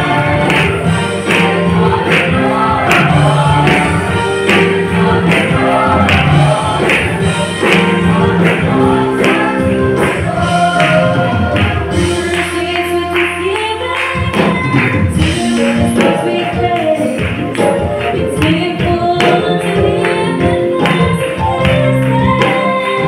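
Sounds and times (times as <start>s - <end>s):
accompaniment with steady beat: 0.0s - 23.0s
choir singing gospel: 0.0s - 23.0s.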